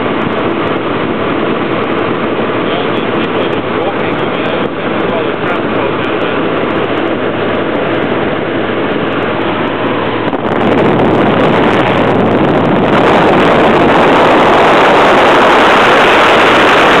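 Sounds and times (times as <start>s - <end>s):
microlight engine drone: 0.0s - 17.0s
wind rush: 0.0s - 17.0s.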